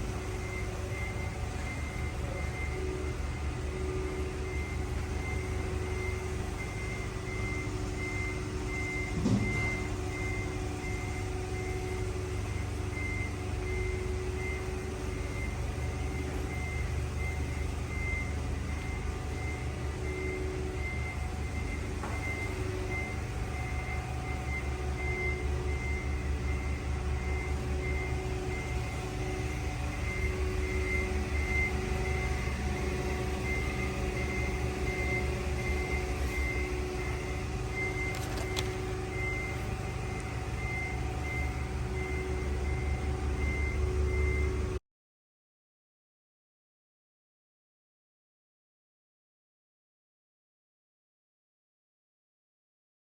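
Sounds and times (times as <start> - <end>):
diesel engine running: 0.0 - 44.8.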